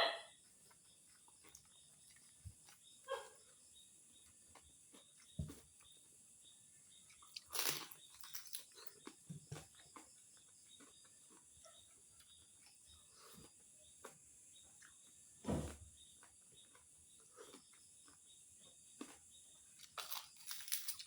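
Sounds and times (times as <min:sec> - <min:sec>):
chewing crispy food: 0:00.3 - 0:15.4, 0:16.0 - 0:21.0.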